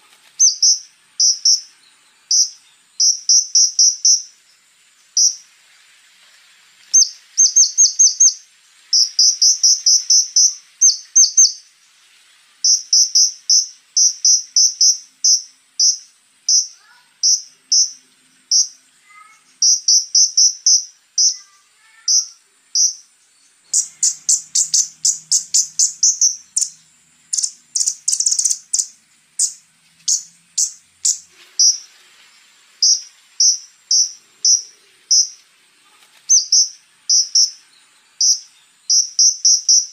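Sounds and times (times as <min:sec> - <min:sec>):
bird singing high ticking notes: 0:00.4 - 0:05.4, 0:07.0 - 0:11.7, 0:12.6 - 0:31.9, 0:32.8 - 0:35.4, 0:36.3 - 0:39.9.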